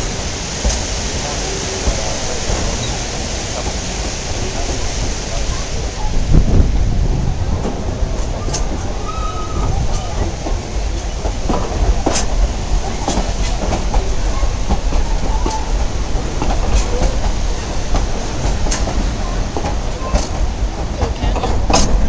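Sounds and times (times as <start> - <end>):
train cars rumbling: 0.0 - 22.0
wheels clacking on rails: 0.0 - 22.0.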